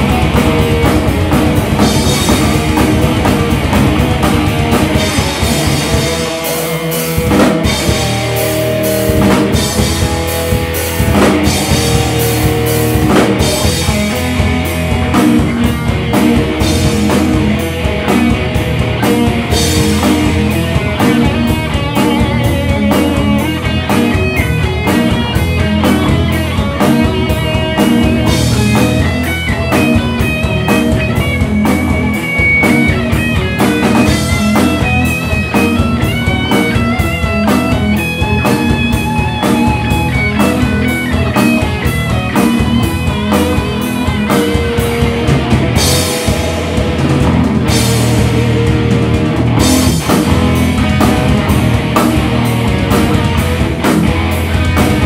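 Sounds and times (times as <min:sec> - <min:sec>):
driving drum hits: 0:00.0 - 0:55.0
high melodic guitar line: 0:00.0 - 0:55.0
metal band playing live: 0:00.0 - 0:55.0.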